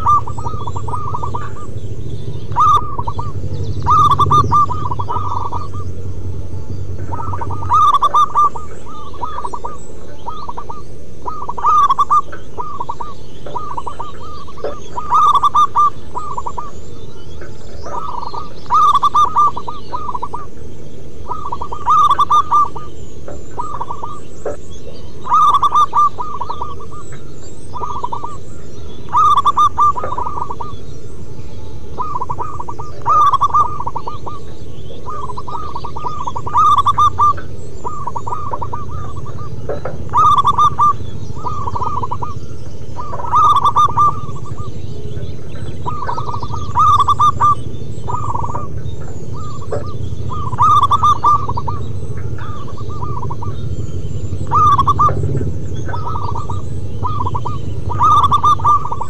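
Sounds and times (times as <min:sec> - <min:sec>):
low rumble: 0:00.0 - 0:25.3, 0:26.1 - 0:59.0
doves cooing: 0:00.0 - 0:59.0.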